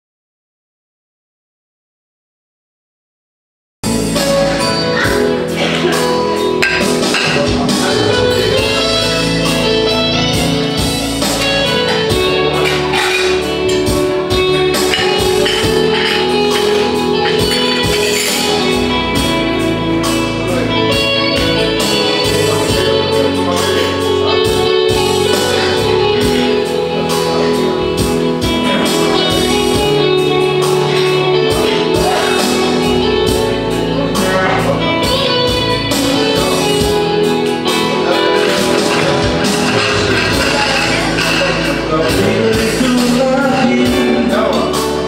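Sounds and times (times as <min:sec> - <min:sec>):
instrumental music with guitar: 0:03.8 - 0:45.0.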